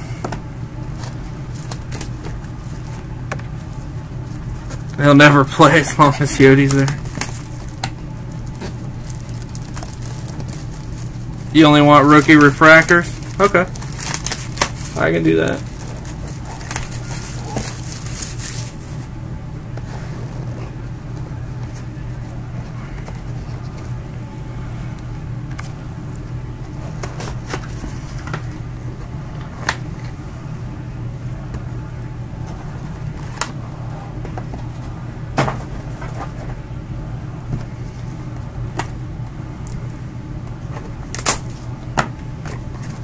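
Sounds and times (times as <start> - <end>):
low background hum: 0.0 - 43.0.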